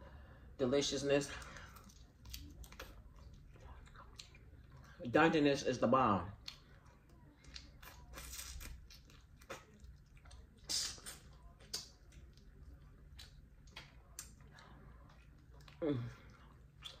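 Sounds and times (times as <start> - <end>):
chewing: 1.4 - 5.0, 6.3 - 17.0.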